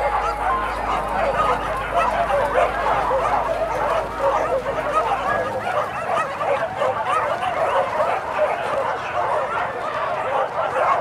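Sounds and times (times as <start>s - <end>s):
dogs yelping and baying: 0.0s - 11.0s.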